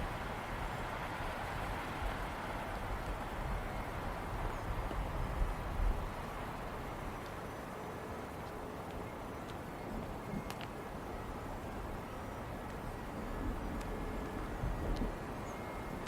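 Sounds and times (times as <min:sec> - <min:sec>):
wind gusts rumbling: 0:00.0 - 0:07.4, 0:08.0 - 0:16.0.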